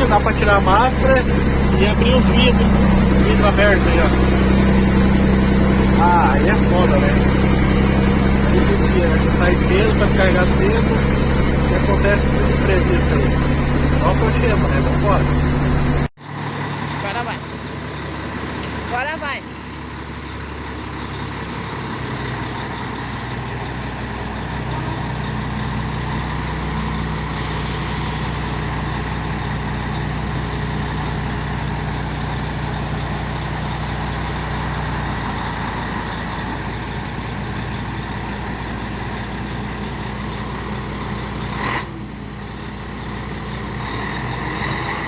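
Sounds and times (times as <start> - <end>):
diesel truck engine: 0.0 - 45.0.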